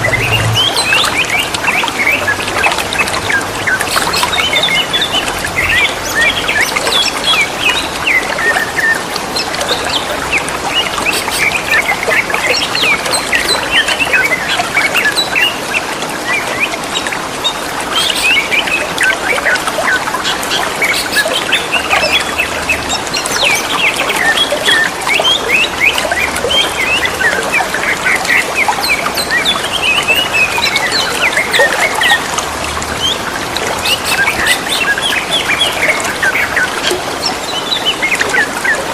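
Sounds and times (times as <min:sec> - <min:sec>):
birds singing chirps and warbles: 0:00.0 - 0:38.9
running water trickling: 0:00.0 - 0:38.9.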